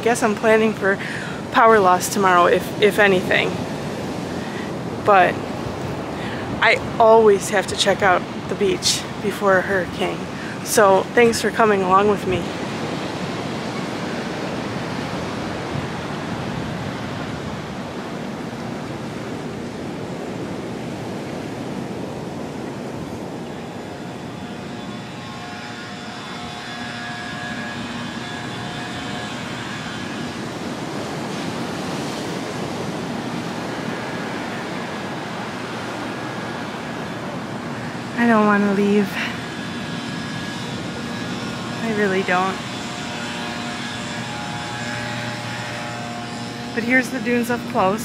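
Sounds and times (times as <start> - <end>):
faint whine: 0.0 - 48.0
ocean surf breaking: 0.0 - 48.0.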